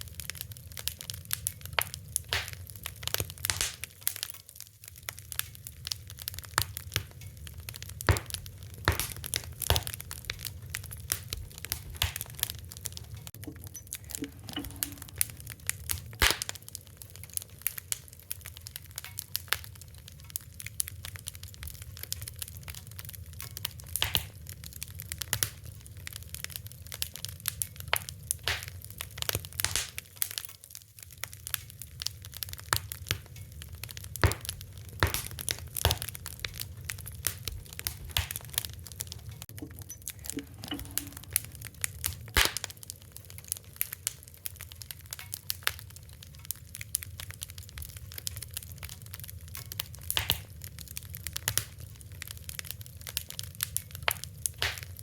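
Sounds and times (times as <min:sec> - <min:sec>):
fire crackling and popping: 0:00.0 - 0:55.0
wood fire rumbling: 0:00.0 - 0:55.0.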